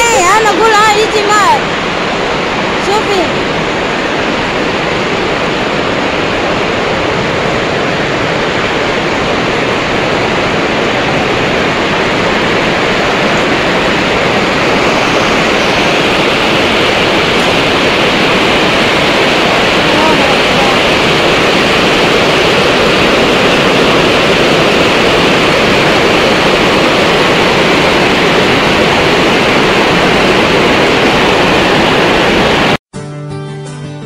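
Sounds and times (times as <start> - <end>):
heavy rain on roof: 0.0 - 32.8.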